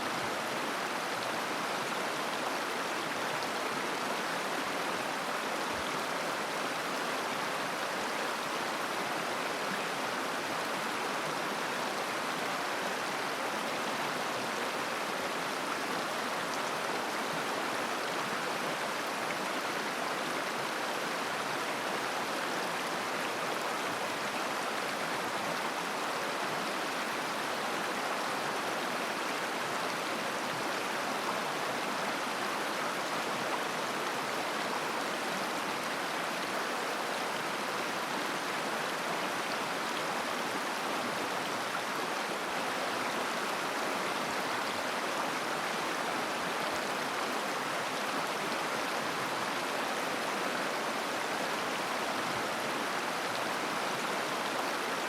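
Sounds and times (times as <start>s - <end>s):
river babbling over stones: 0.0s - 55.0s.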